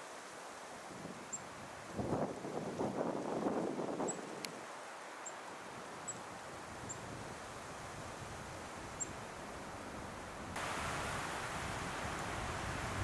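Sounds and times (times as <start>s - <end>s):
leaves rustling: 0.0s - 13.0s
wind on microphone: 0.9s - 4.6s, 6.1s - 13.0s.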